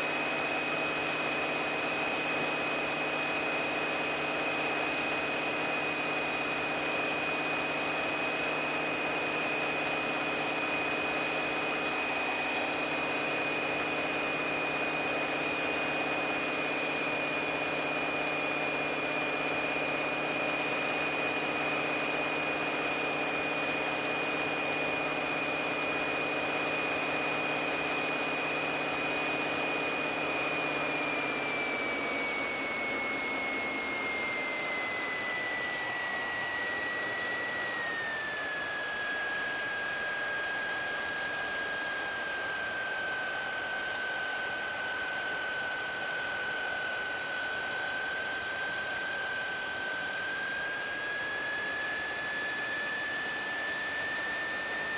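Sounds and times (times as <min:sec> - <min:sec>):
aircraft engine and propeller droning: 0:00.0 - 0:54.9.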